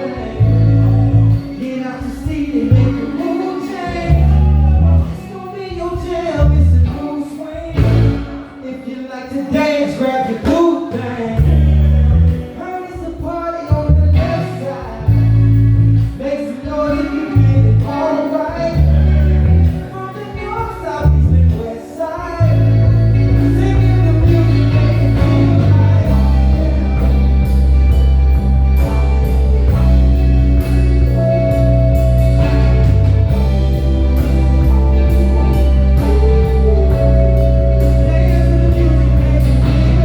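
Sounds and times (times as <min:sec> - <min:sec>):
bass guitar: 0:00.0 - 0:08.7, 0:09.8 - 0:40.0
live soul band playing: 0:00.0 - 0:40.0.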